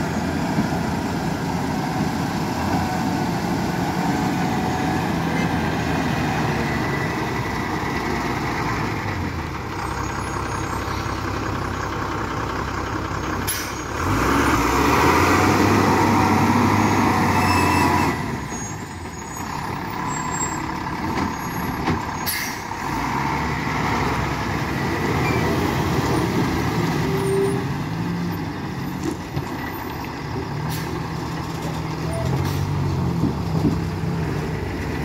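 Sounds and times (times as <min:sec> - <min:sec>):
truck diesel engines under load: 0:00.0 - 0:35.0
truck passing by: 0:00.0 - 0:35.0.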